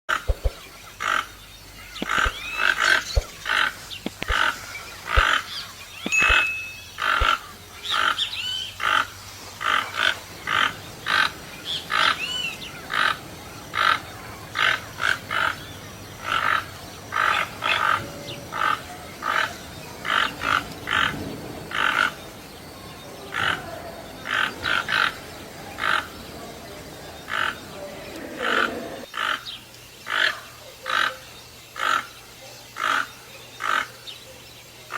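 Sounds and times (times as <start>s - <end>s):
toucan croaking calls: 0.1s - 34.9s
birds whistling: 0.2s - 34.9s.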